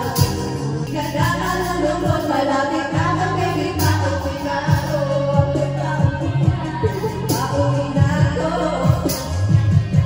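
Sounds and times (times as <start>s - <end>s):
person singing: 0.0s - 10.0s
pop backing track with bass and beat: 0.0s - 10.0s.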